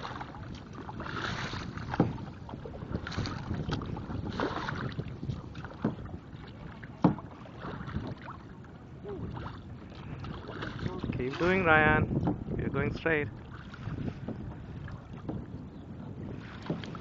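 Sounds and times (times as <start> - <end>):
paddle splashing in water: 0.0 - 17.0
wind rumble on microphone: 0.0 - 17.0.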